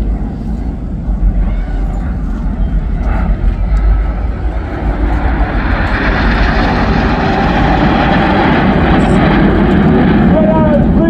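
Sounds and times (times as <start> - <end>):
jet roar: 0.0 - 11.0.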